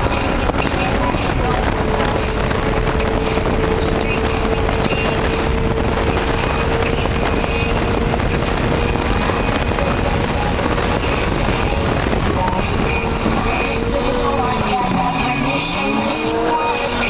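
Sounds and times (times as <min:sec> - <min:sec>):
car engine at steady revs: 0:00.0 - 0:17.0
wind and road noise: 0:00.0 - 0:17.0.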